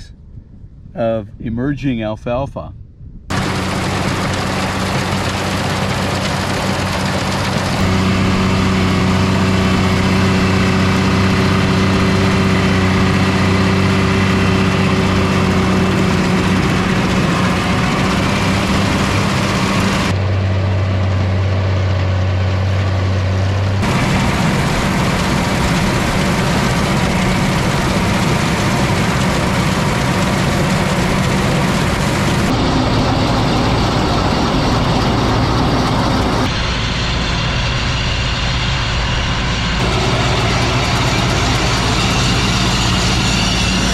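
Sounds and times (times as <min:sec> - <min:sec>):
tractor engine running: 0:03.3 - 0:43.9.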